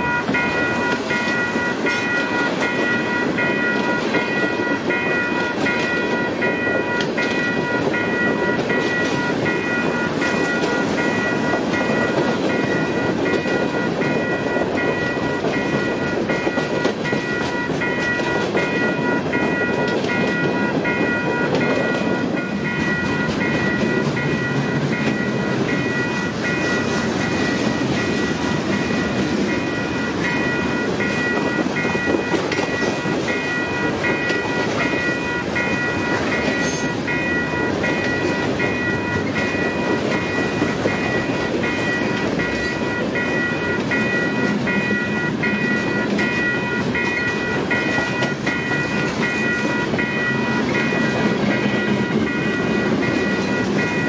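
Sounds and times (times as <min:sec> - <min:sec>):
crossing bell ringing: 0:00.0 - 0:54.0
freight train wheels rumbling: 0:00.0 - 0:54.0.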